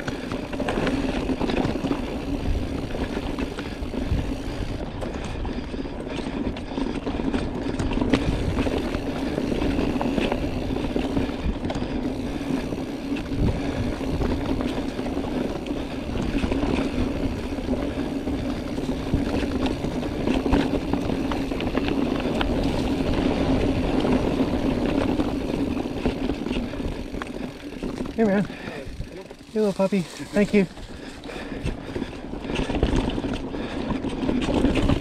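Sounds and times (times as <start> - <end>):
bike knocking and rattling: 0.0 - 35.0
bike tyres on dirt: 0.0 - 35.0.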